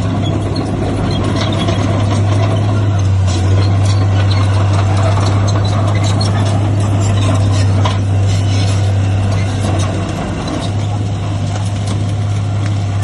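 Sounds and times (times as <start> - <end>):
heavy diesel engine humming: 0.0 - 13.0.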